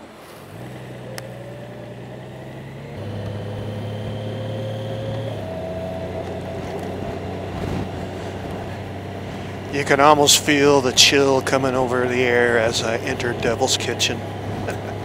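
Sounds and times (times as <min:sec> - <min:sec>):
motorcycle engine accelerating: 0:00.3 - 0:15.0.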